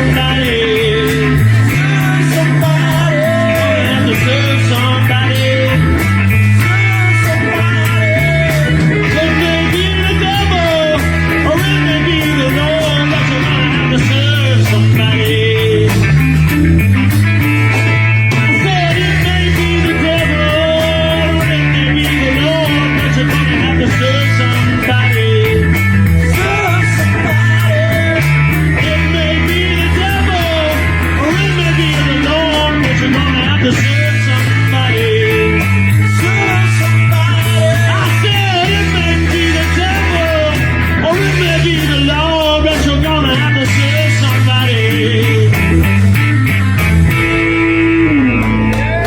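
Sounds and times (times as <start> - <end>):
bass guitar: 0.0 - 49.0
drum beat with cymbal hits: 0.0 - 49.0
lead guitar bending and sliding: 0.0 - 49.0.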